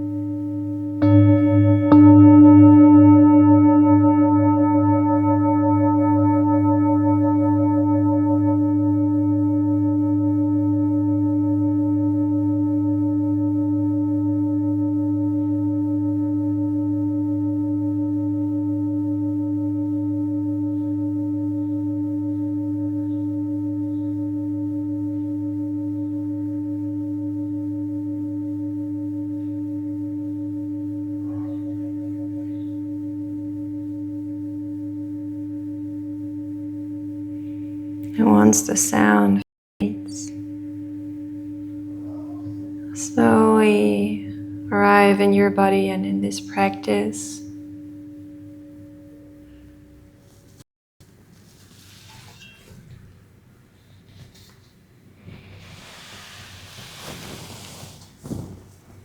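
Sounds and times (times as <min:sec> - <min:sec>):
singing bowl ringing: 0:00.0 - 0:50.6.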